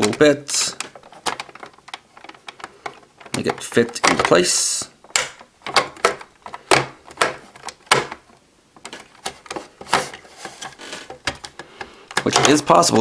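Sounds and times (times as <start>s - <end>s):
plastic buckle clicking and knocking: 0.8s - 10.1s, 11.0s - 12.7s.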